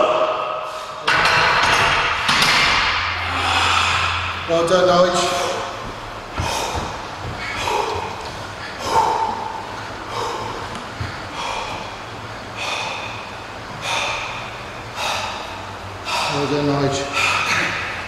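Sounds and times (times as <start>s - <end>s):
man breathing hard: 0.5s - 1.1s, 3.2s - 4.5s, 5.2s - 18.0s.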